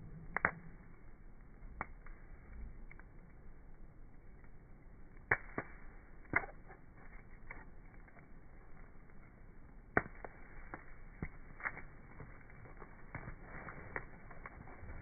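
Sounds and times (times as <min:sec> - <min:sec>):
campfire wood crackling: 0:00.0 - 0:15.0.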